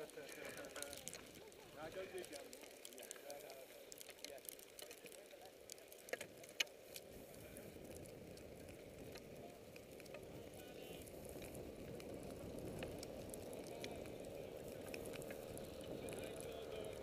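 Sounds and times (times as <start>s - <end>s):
faint ticks: 0.0s - 17.0s.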